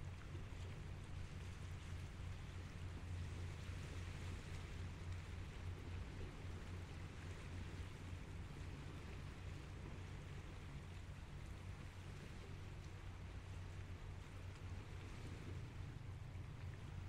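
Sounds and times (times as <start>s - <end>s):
low rumble: 0.0s - 17.0s
soft hiss of water: 0.0s - 17.0s.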